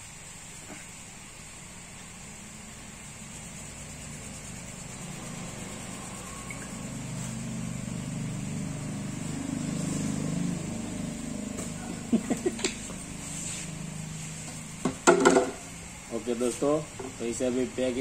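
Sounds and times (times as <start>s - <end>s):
vehicle engine humming: 0.0s - 16.9s.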